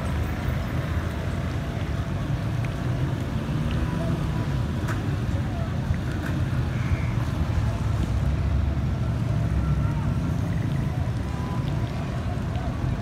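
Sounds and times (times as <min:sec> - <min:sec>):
rain on flooded street: 0:00.0 - 0:13.0.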